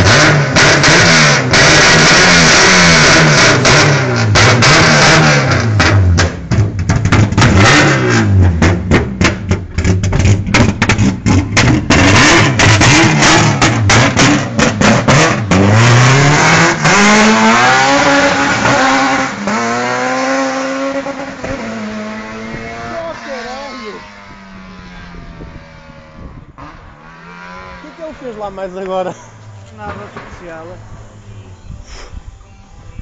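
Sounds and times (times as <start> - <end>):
car accelerating through gears: 0.0 - 29.6
car engine revving: 0.0 - 33.0.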